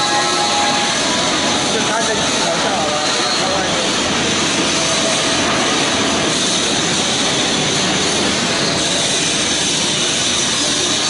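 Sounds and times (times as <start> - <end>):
faint high whines: 0.0 - 11.0
welding machine hiss and hum: 0.0 - 11.0.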